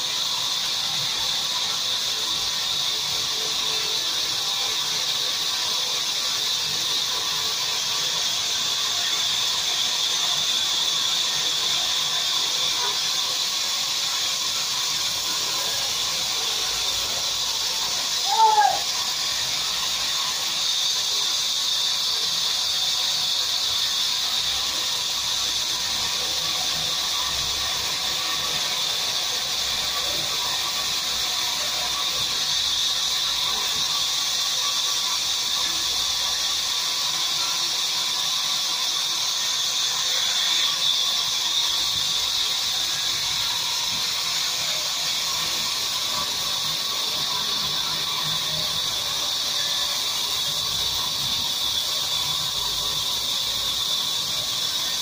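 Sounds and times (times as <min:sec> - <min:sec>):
band saw cutting timber: 0:00.0 - 0:55.0.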